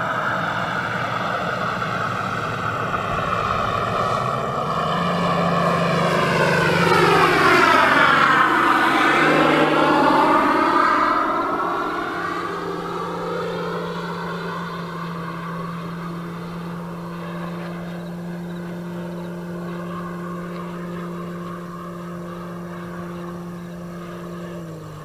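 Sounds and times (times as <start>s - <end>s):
model plane motor droning: 0.0s - 25.0s
simulated radial engine sound: 0.0s - 25.0s.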